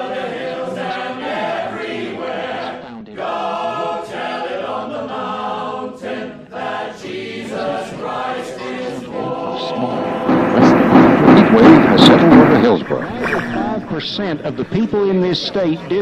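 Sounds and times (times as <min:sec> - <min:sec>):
choir singing: 0:00.0 - 0:14.8.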